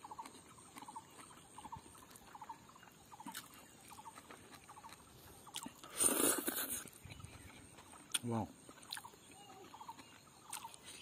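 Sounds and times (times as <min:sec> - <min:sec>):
chewing clicks: 0:00.0 - 0:11.0.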